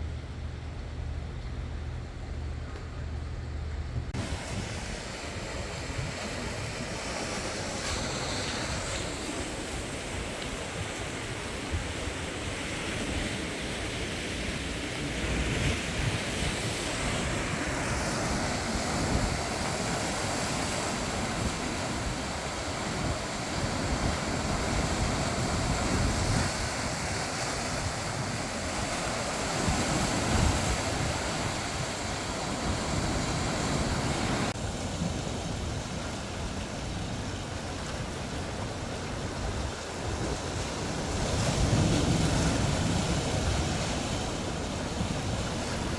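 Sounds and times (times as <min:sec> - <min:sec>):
wind buffeting microphone: 0:00.0 - 0:45.9
sea waves breaking: 0:03.4 - 0:45.9.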